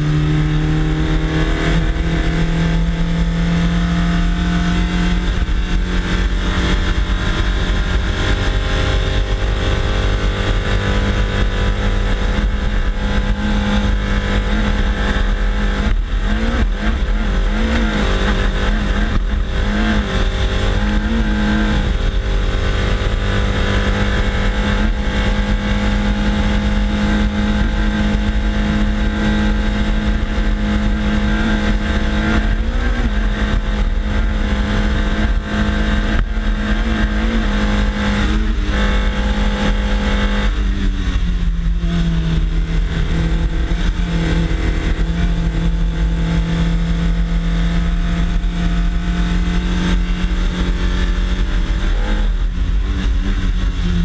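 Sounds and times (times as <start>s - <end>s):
car engine revving hard: 0.0s - 54.0s
heavy wind noise: 0.0s - 54.0s
road rumble: 0.0s - 54.0s.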